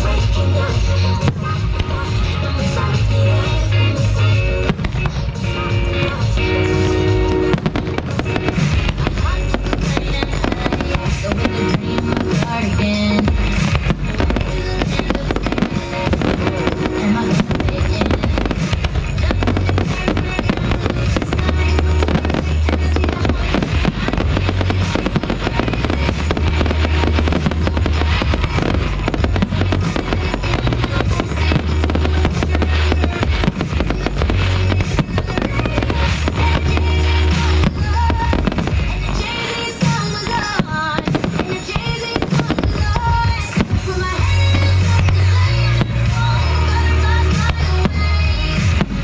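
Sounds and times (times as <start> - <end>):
fireworks bangs and crackles: 0.0 - 49.0
music playing: 0.0 - 49.0.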